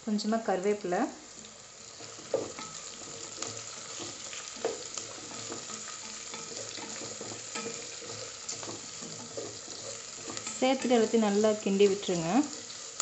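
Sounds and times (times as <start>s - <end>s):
onions sizzling in hot ghee: 0.0s - 13.0s
wooden spatula scraping a pot: 1.8s - 13.0s.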